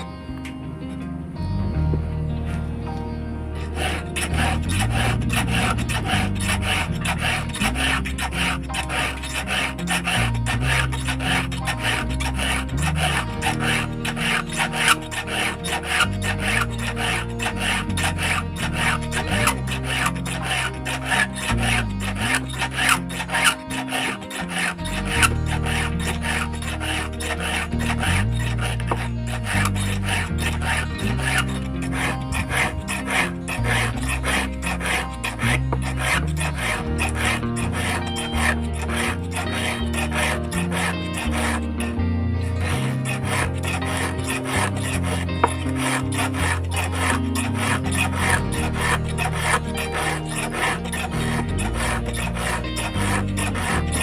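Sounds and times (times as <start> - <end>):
background music: 0.0 - 54.0
file rasping on chainsaw chain: 3.6 - 54.0.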